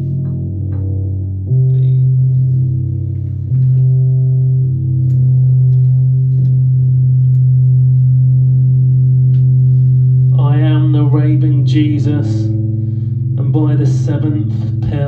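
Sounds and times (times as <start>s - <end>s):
low musical drone: 0.0s - 15.0s.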